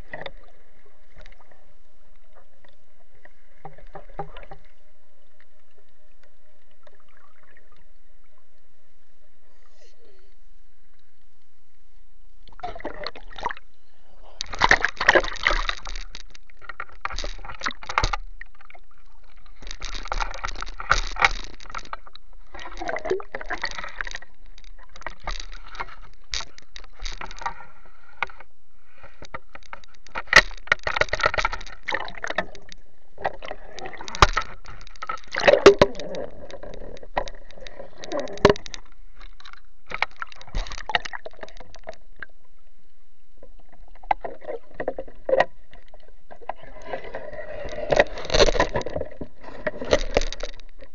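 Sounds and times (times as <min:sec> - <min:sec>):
water sloshing and splashing: 0:00.0 - 0:08.6, 0:12.4 - 0:50.9.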